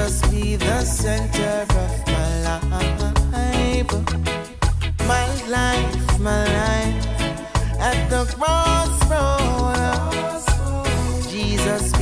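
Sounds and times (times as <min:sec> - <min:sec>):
reggae music: 0:00.0 - 0:12.0.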